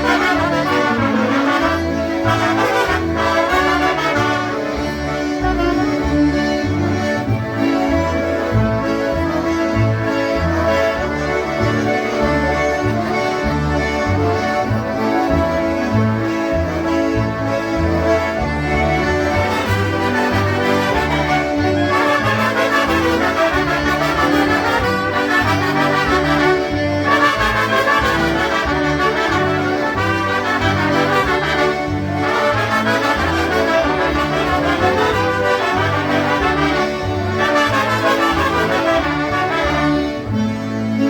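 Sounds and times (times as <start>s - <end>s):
polka band playing: 0.0s - 41.0s.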